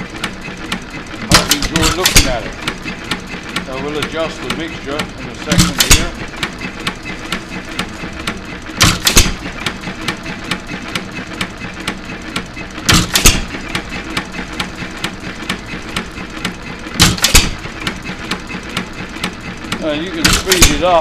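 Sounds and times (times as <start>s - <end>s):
engine clicking while coasting: 0.0s - 21.0s
engine firing bursts: 0.0s - 21.0s.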